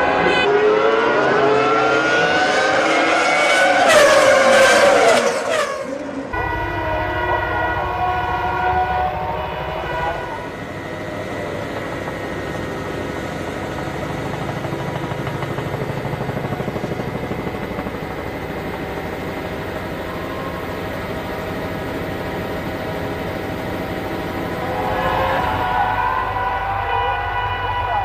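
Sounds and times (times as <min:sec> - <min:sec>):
engine drone: 0:00.0 - 0:28.0.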